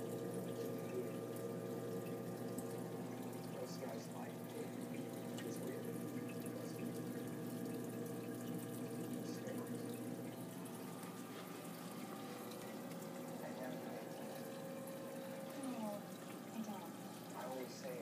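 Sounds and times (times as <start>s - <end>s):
aquarium equipment hum: 0.0s - 18.0s
water trickling and dripping: 0.0s - 18.0s.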